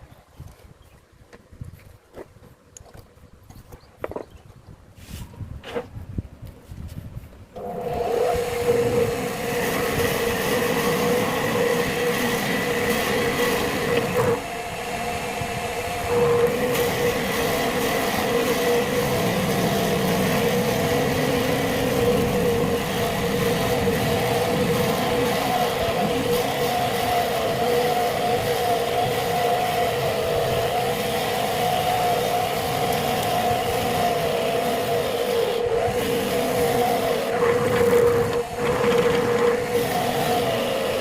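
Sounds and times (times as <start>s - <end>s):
wood lathe humming: 7.6s - 41.0s.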